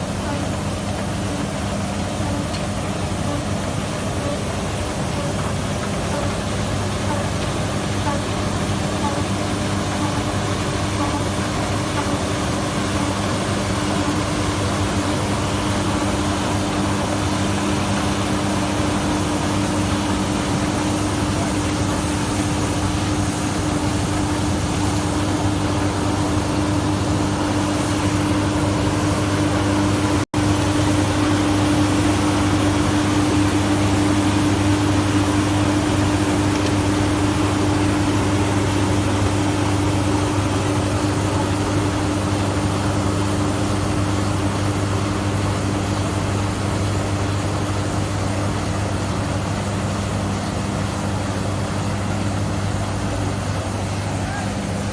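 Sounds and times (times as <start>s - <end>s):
machinery humming: 0.0s - 54.9s.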